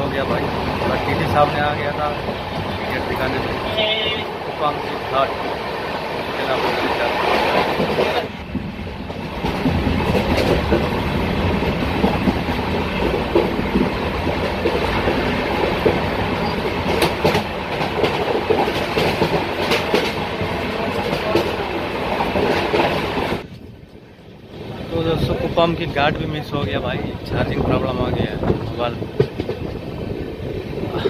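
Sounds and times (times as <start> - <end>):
clickety-clack of rail joints: 0.0 - 31.0
train wheels rumbling on rails: 0.0 - 31.0.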